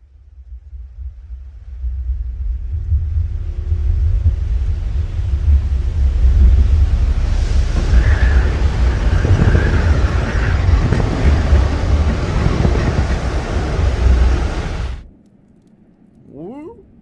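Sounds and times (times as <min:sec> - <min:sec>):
loud bassy rumbling: 0:01.0 - 0:15.1.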